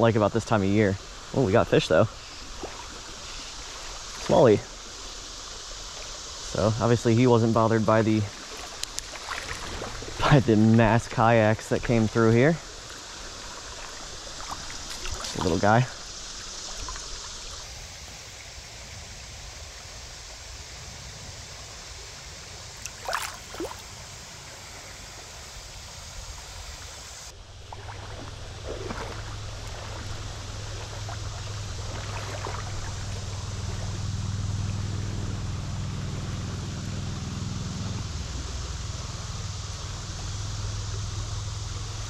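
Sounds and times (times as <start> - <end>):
stream running over rocks: 0.0 - 34.9
low steady hum: 0.0 - 42.0.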